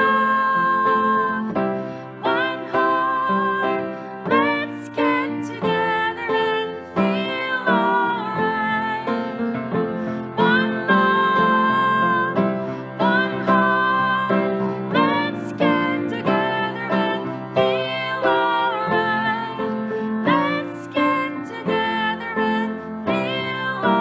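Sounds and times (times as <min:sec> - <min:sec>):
piano accompaniment: 0:00.0 - 0:24.0
woman singing: 0:00.0 - 0:24.0.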